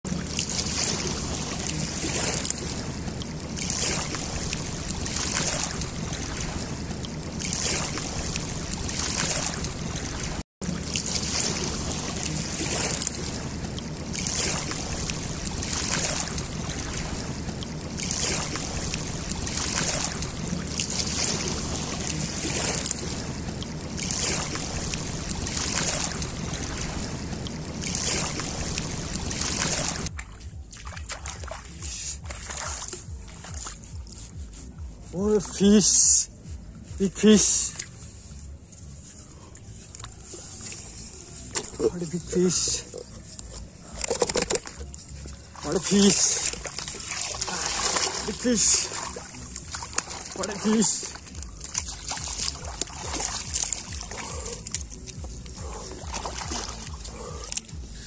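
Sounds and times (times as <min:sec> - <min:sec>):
low hum: 0:00.1 - 0:58.0
shallow river water rippling: 0:00.1 - 0:58.0.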